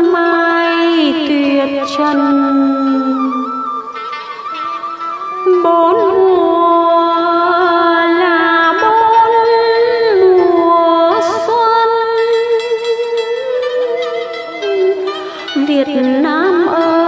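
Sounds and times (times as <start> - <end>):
slow gliding melody: 0.0 - 17.0.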